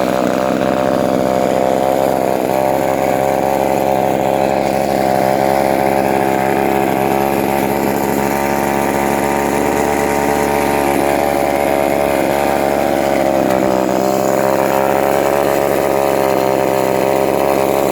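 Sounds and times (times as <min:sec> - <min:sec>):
two-stroke chainsaw running: 0:00.0 - 0:17.9.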